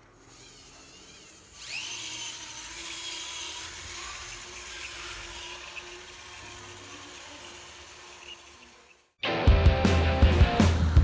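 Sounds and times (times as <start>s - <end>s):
toy truck electric motor whirring: 0.0s - 9.2s.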